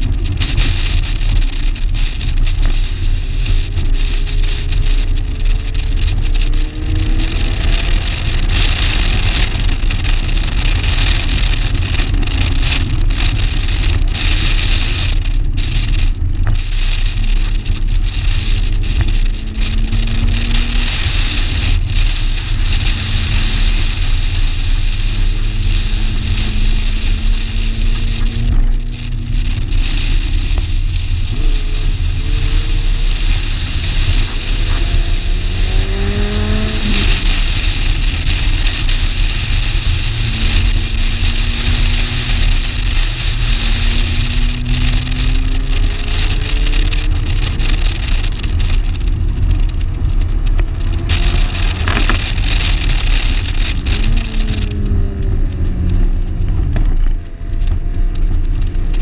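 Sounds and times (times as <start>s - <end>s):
car engine pulling hard: 0.0s - 59.0s
heavy steady rumble: 0.0s - 59.0s.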